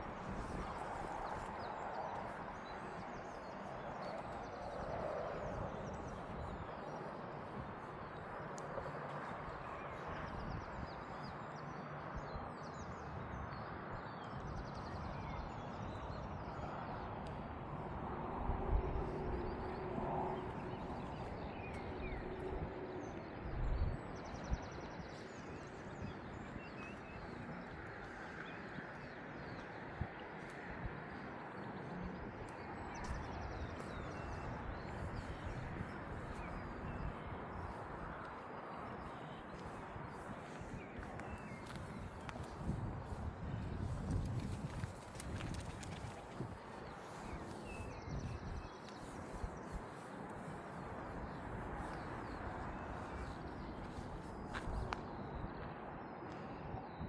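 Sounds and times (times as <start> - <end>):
low wind buffets: 0.0 - 57.0.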